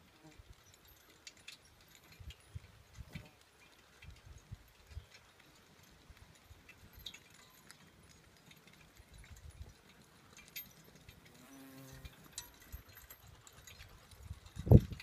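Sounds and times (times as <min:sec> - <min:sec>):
harness jingling: 0:00.0 - 0:15.0.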